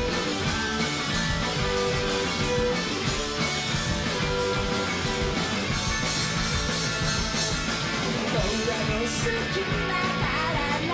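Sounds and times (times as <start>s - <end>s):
drum kit beat on cymbals: 0.0s - 10.9s
electric guitar riff: 0.0s - 10.9s.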